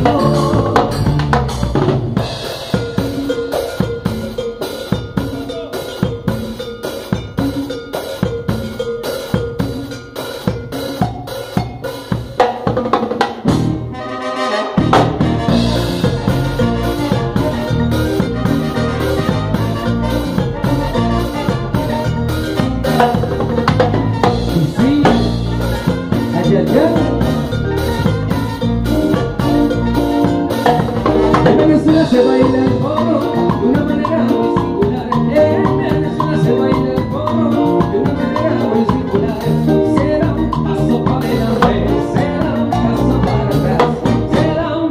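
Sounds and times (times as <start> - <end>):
live salsa band playing: 0.0 - 44.9.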